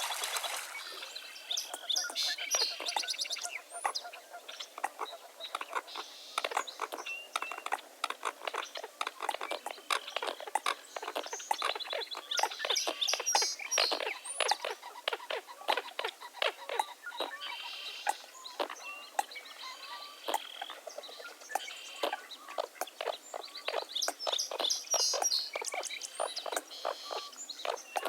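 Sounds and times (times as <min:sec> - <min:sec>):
many birds calling: 0:00.1 - 0:28.0.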